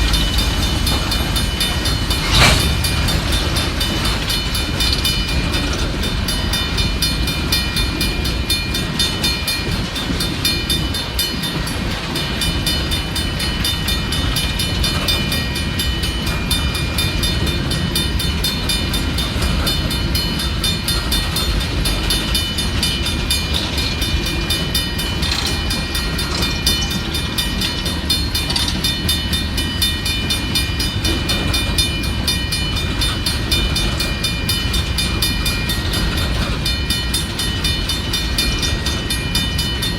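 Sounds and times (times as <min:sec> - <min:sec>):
freight cars rumbling on rails: 0:00.0 - 0:39.9.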